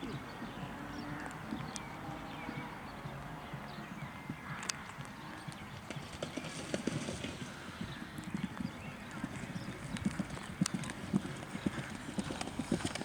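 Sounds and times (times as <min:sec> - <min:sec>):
horse hoofbeats: 0:00.0 - 0:13.0.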